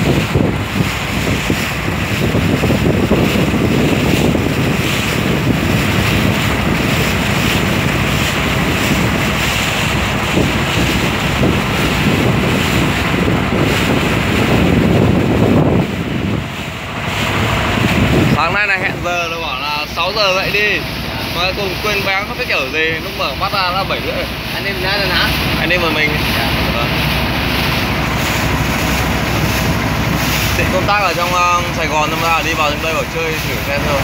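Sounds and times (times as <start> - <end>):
boat engine rumble: 0.0 - 34.0
water rushing past hull: 0.0 - 34.0
wind noise on microphone: 0.0 - 34.0.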